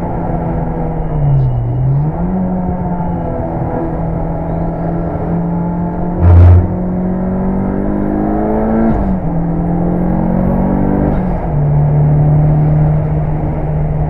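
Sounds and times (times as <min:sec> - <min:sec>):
turbocharged car engine revving: 0:01.3 - 0:14.0.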